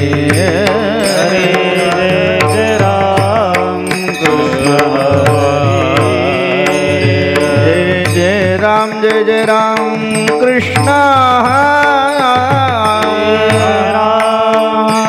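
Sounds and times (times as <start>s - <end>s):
drum strokes: 0.0s - 15.0s
hand cymbals striking: 0.0s - 15.0s
man singing: 0.0s - 15.0s.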